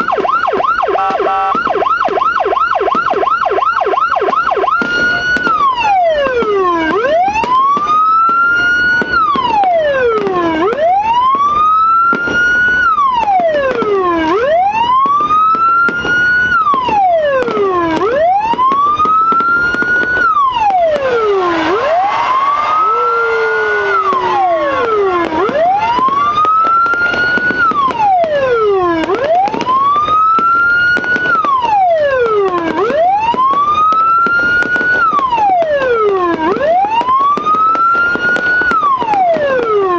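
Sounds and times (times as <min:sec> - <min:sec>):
electronic siren wailing: 0:00.0 - 0:39.9.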